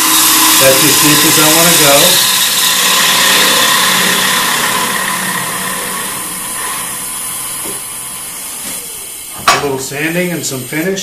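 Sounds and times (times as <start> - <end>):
gouge cutting spinning wood: 0.0 - 11.0
lathe humming: 0.0 - 11.0.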